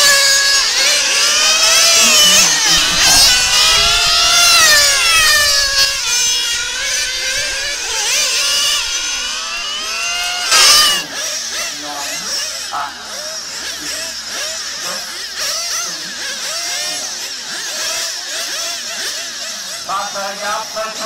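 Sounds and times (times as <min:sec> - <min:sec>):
rc car engines screaming: 0:00.0 - 0:21.0.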